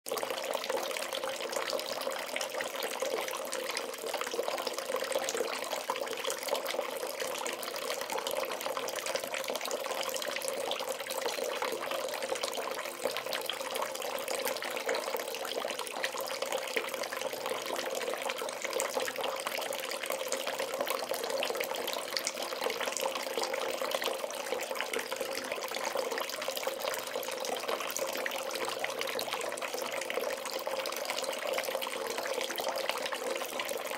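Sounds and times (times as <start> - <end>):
tap water filling bathtub: 0.1 - 33.9.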